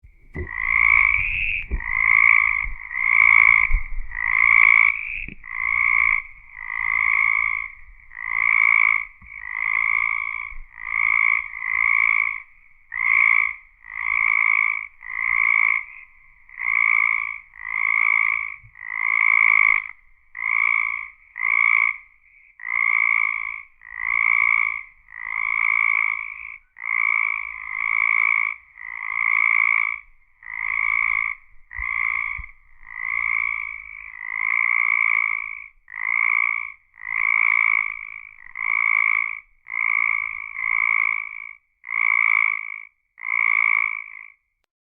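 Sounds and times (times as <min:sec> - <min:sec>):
frog croaking: 0:00.2 - 0:44.6.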